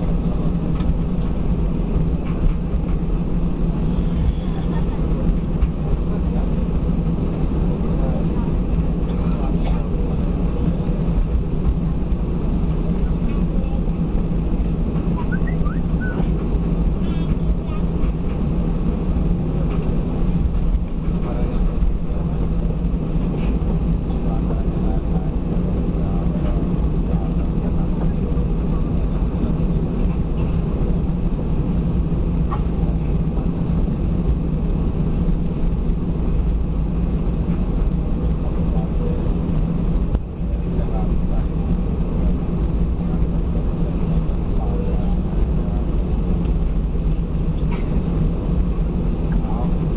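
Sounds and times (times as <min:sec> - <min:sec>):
jet engines idling in cabin: 0:00.0 - 0:49.9.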